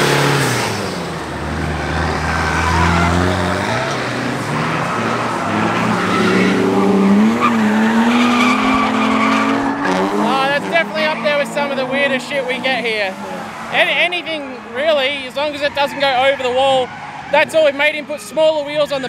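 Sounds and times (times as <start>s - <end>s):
car engine revving: 0.0s - 17.9s
tyres squealing: 1.5s - 19.0s.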